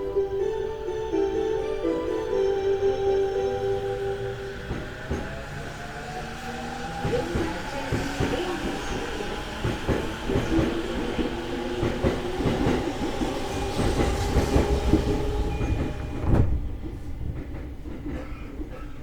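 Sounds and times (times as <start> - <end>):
electric train hum: 0.0 - 18.9
train wheels clacking on rails: 1.8 - 19.0.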